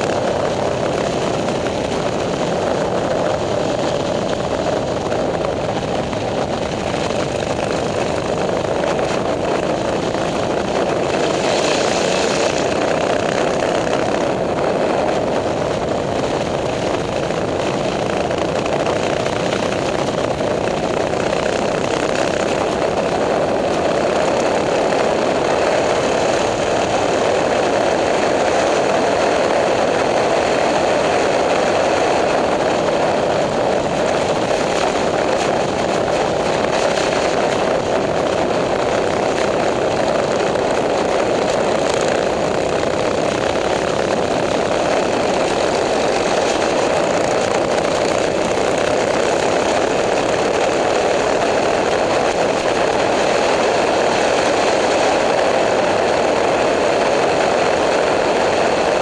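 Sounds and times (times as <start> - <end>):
minibike engine running: 0.0 - 59.0
wind on microphone: 0.0 - 59.0.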